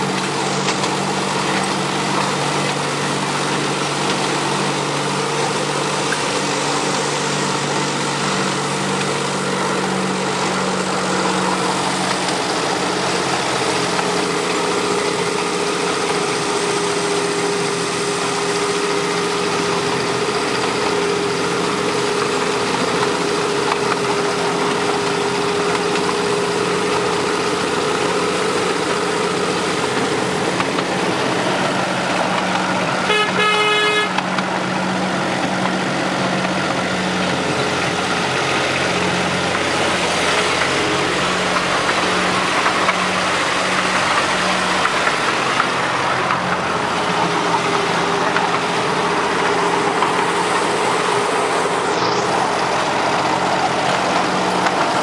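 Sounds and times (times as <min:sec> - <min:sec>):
miniature locomotive engine droning: 0:00.0 - 0:55.0
steady whine: 0:00.0 - 0:55.0.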